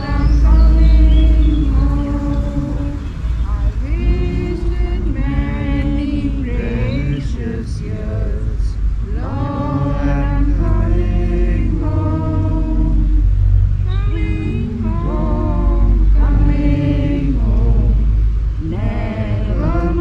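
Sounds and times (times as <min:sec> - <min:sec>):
group singing a hymn: 0:00.0 - 0:20.0
low rumble: 0:00.0 - 0:20.0.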